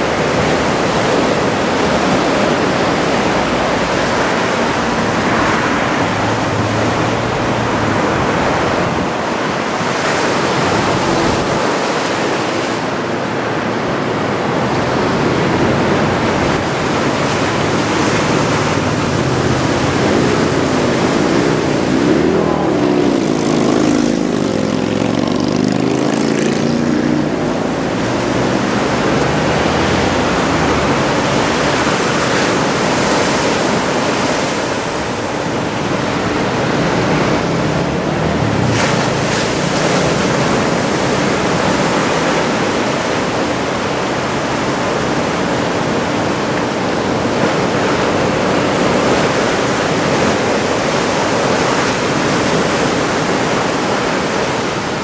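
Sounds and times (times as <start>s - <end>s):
road traffic passing: 0.0s - 55.0s
surf breaking: 0.0s - 55.0s.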